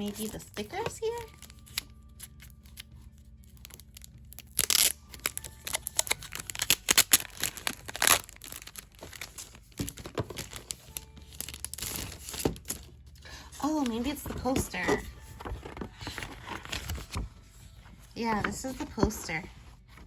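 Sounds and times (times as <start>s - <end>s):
packaging crinkling and tearing: 0.0s - 17.7s.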